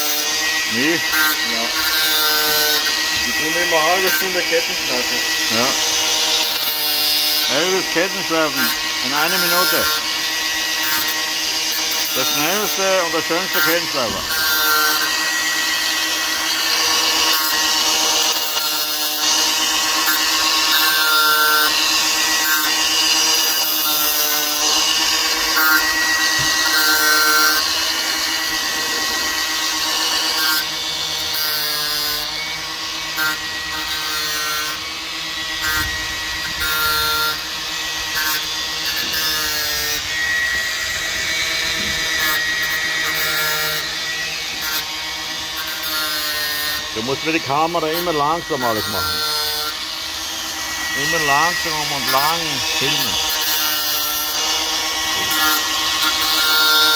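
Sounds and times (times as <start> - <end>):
angle grinder motor whine: 0.0 - 56.9
grinding rasps on chain teeth: 0.0 - 56.9.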